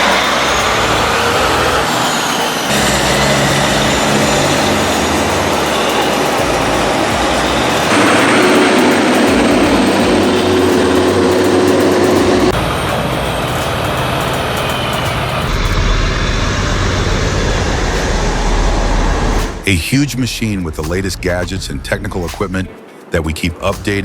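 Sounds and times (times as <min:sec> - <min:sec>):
heavy truck engine and road noise: 0:00.0 - 0:19.8.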